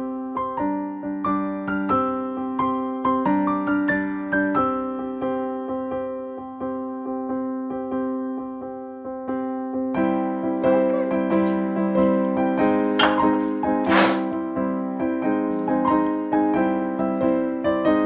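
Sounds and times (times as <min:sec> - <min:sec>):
electric piano music: 0:00.0 - 0:18.0.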